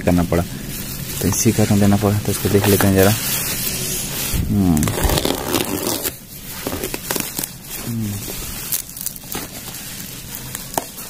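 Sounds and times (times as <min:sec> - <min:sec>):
bubble wrap crinkling and crackling: 0:00.0 - 0:11.0.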